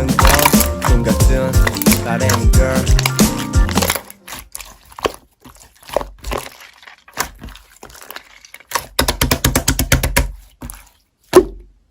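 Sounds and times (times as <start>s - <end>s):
slime crackling and popping: 0.0s - 9.8s.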